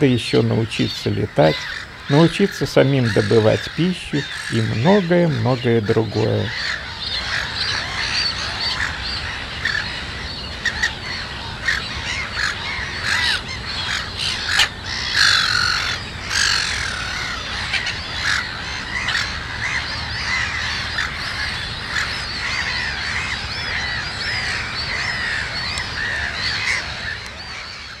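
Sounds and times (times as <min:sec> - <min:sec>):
gulls calling: 0:00.0 - 0:28.0.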